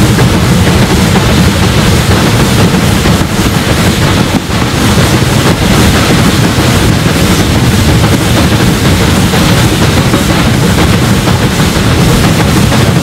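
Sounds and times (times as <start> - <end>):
steam locomotive roar: 0.0 - 13.0.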